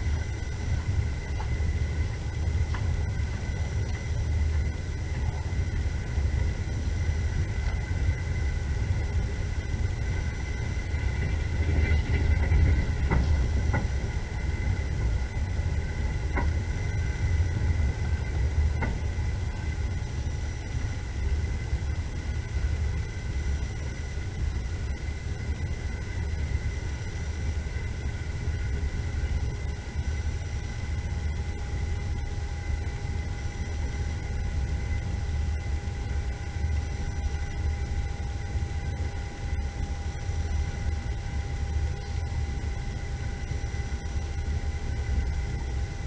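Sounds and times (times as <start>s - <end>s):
faint high whine: 0.0s - 46.0s
train rumbling inside carriage: 0.0s - 46.0s.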